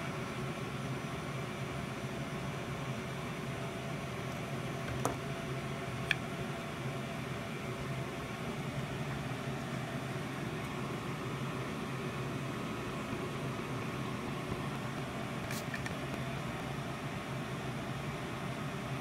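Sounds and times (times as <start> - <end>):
heat gun fan hum: 0.0 - 19.0.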